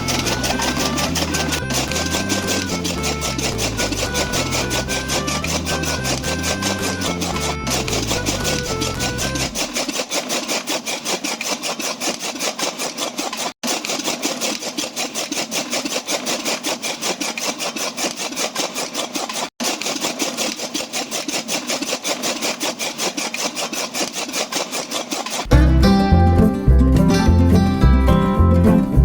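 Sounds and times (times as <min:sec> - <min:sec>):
motorised mechanism rasping: 0:00.0 - 0:25.5.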